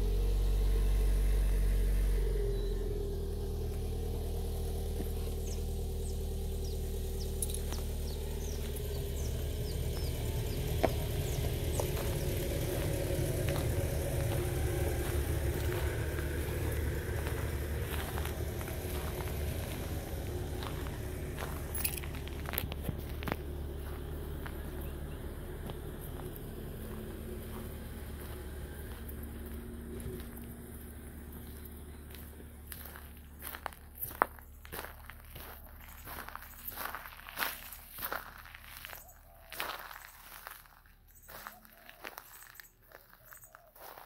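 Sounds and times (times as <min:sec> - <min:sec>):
engine humming: 0:00.0 - 0:44.0.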